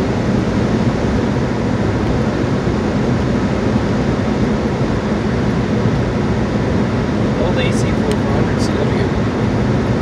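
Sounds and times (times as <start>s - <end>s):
road and tyre noise inside car: 0.0s - 10.0s.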